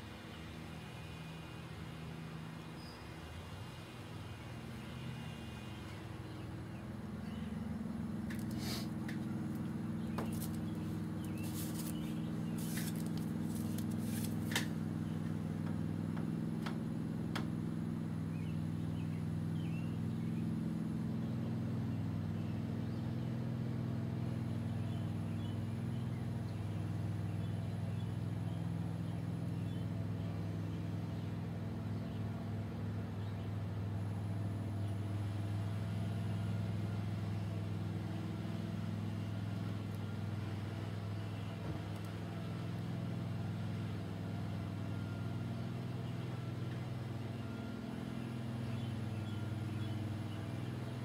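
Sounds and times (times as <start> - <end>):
low mechanical hum: 0.0 - 51.0.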